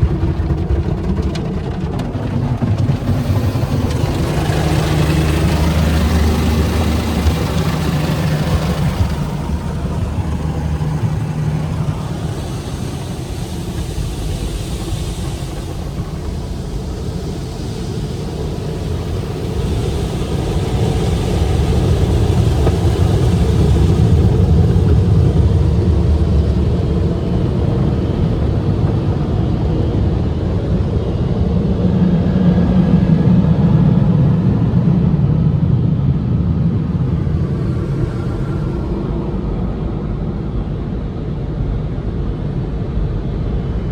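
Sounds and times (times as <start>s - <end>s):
car wash equipment humming: 0.0s - 40.6s.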